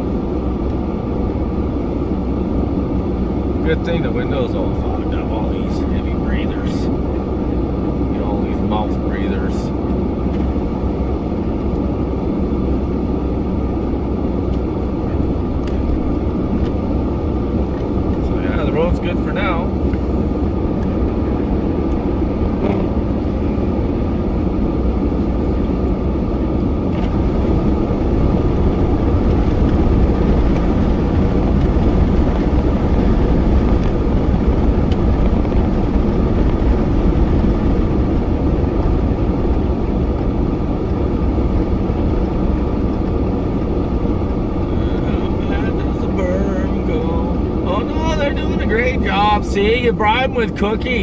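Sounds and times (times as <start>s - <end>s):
road noise: 0.0s - 51.0s
truck engine drone: 0.0s - 51.0s.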